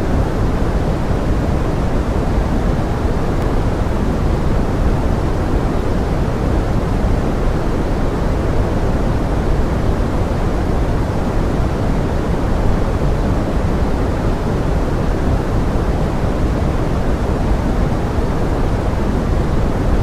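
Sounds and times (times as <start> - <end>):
pink noise: 0.0 - 20.0.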